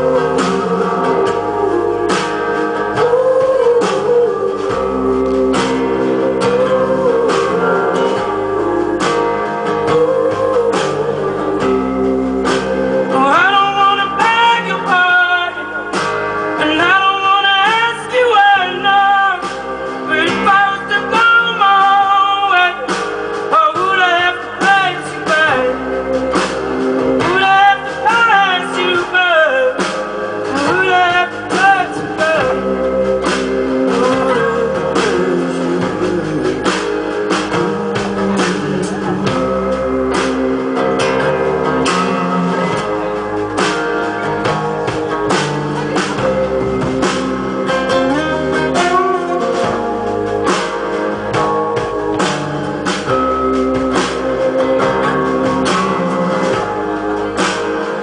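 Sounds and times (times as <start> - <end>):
man singing: 0.0 - 43.7, 45.3 - 50.9
acoustic guitars playing: 0.0 - 58.0.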